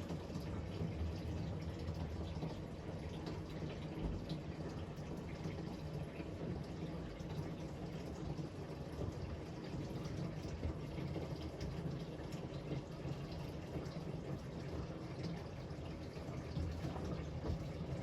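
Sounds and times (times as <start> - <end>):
tap water running and splashing: 0.0 - 18.0.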